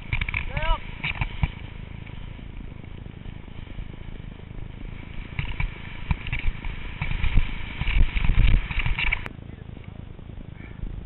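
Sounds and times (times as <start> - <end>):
skis scraping over snow: 0.0 - 9.3
wind rumbling on microphone: 0.0 - 11.0.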